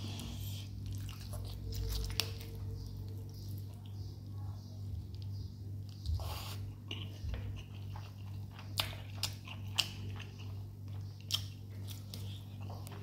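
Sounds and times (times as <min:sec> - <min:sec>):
person chewing food: 0:00.0 - 0:04.0, 0:05.1 - 0:13.0
steady low hum: 0:00.0 - 0:13.0.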